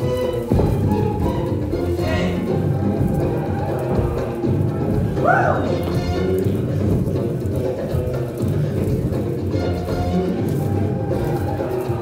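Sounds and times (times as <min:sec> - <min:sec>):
music over loudspeakers: 0:00.0 - 0:12.0.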